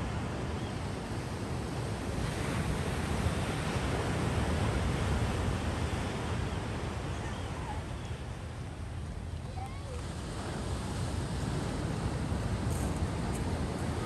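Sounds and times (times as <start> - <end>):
wind rumble on microphone: 0.0 - 14.0
ocean surf breaking: 1.8 - 14.0.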